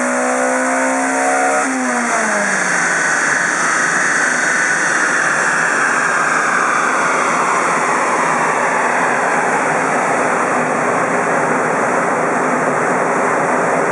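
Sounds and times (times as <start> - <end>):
loud rushing noise: 1.7 - 13.9.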